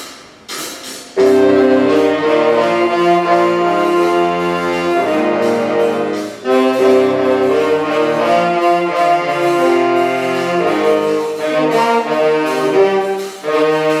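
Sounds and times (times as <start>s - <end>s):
wind and brass ensemble chords: 1.2s - 14.0s.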